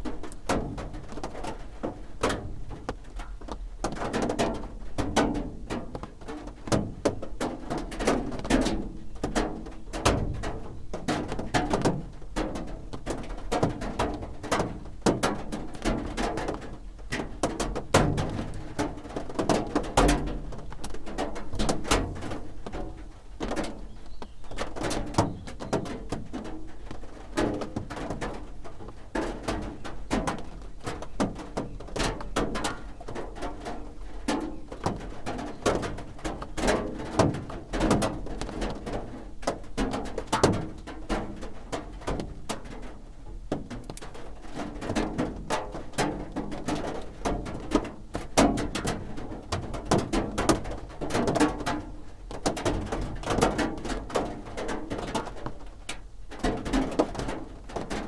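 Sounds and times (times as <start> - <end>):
rain drumming on a roof: 0.0 - 58.0.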